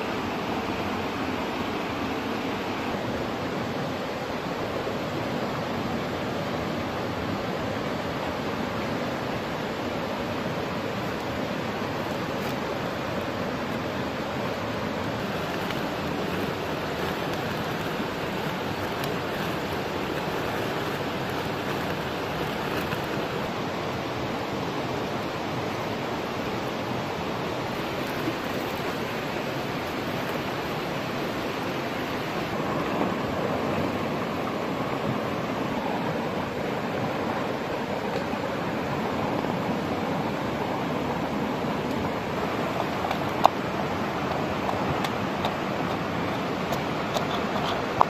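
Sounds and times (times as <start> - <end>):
river rushing over rocks: 0.0 - 48.0.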